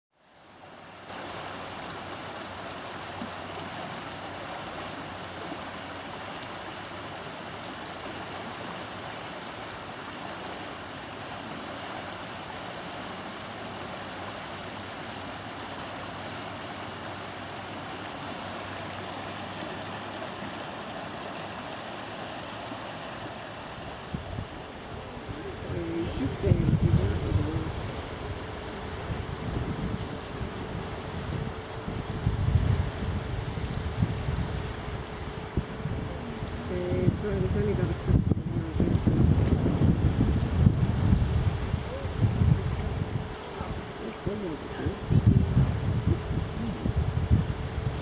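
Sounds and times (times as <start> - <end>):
water rushing: 0.1 - 48.0.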